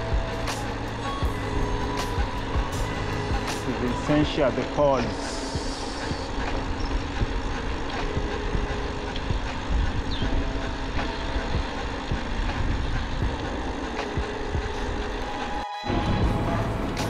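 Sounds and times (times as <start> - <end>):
bicycle rattling over tarmac: 0.0 - 15.3.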